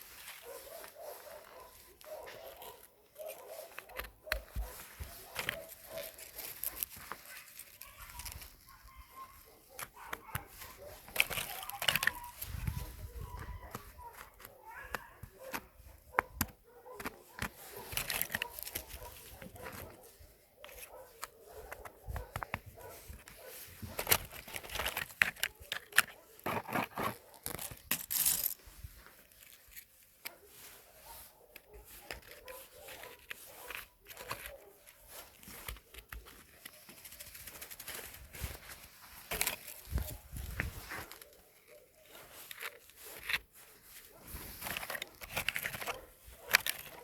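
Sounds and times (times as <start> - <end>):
rustling and crackling: 0.0 - 47.0.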